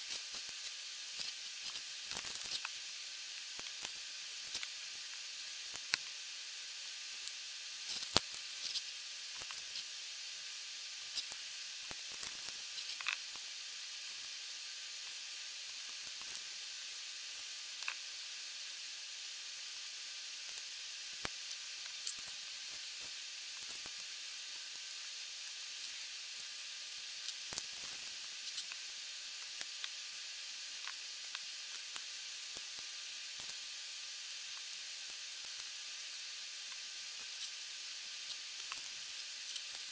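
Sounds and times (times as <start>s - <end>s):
recording hiss: 0.0s - 39.9s.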